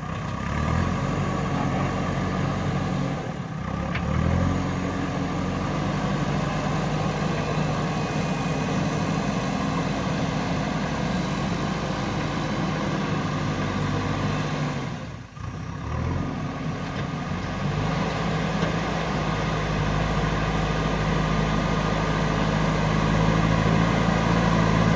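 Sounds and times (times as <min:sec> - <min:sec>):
backhoe diesel engine running: 0:00.0 - 0:24.9.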